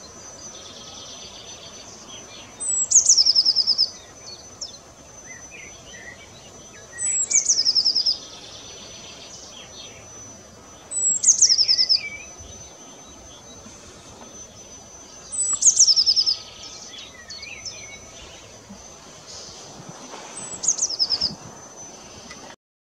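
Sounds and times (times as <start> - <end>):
bird singing with trill: 0.0 - 19.7, 20.4 - 22.5.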